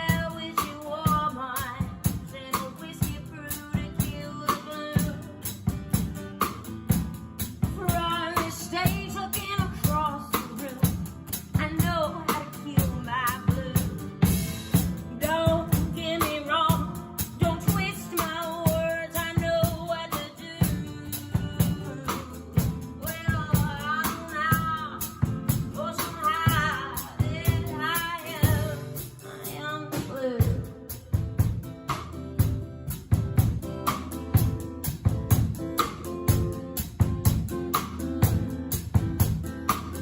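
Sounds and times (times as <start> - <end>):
woman singing folk song: 0.0 - 34.5
instrumental accompaniment with beat: 0.0 - 40.0.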